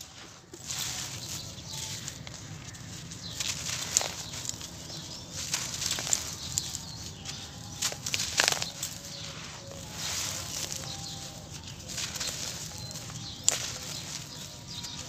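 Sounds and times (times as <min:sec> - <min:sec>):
cement lumps crunching in hands: 0:00.0 - 0:15.0.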